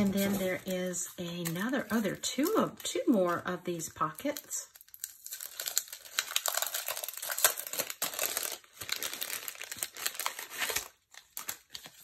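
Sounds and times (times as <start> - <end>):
paper and plastic packaging crinkling: 0.0 - 12.0.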